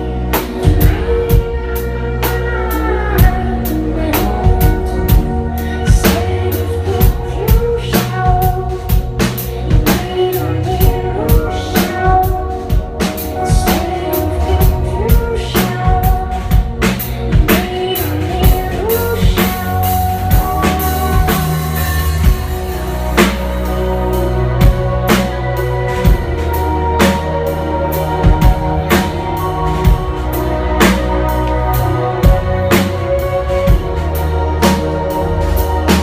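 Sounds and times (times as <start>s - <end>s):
deep bass line: 0.0s - 36.0s
drum kit beat: 0.0s - 36.0s.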